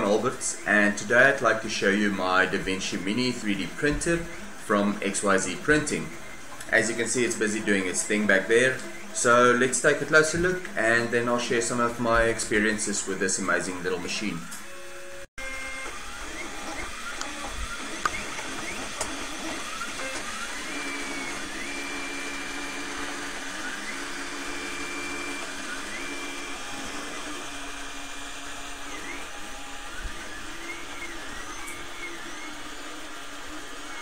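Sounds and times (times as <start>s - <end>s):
printer motors whining: 0.0s - 34.0s.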